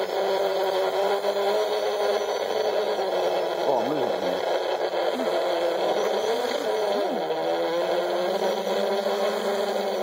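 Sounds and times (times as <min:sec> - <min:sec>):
quadcopter propellers buzzing: 0:00.0 - 0:10.0.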